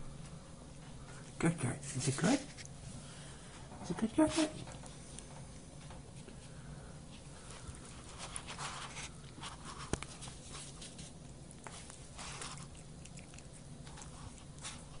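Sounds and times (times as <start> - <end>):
low steady hum: 0.0 - 15.0
cat licking and chewing: 0.2 - 15.0.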